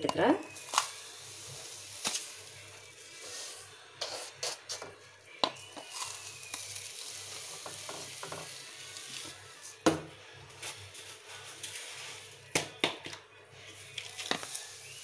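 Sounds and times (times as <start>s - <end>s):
sugar pouring into a pot: 0.4s - 9.7s, 10.6s - 12.6s, 13.7s - 15.0s.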